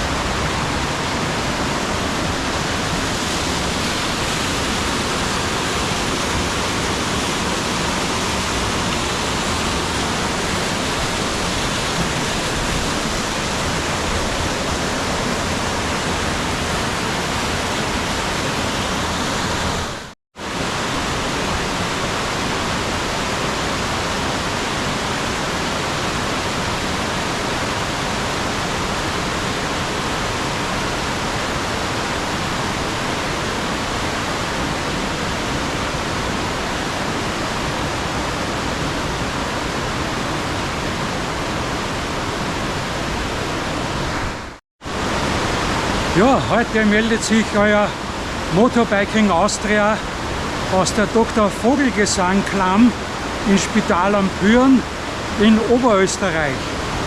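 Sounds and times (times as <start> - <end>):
stream rushing over cascades: 0.0 - 57.0.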